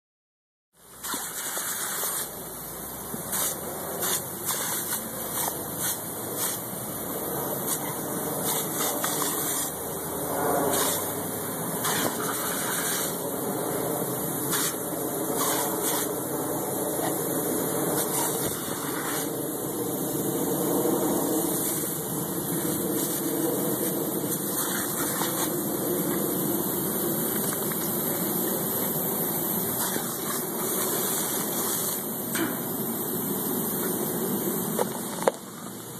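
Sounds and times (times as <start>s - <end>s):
sprinkler spraying water: 0.8s - 35.8s.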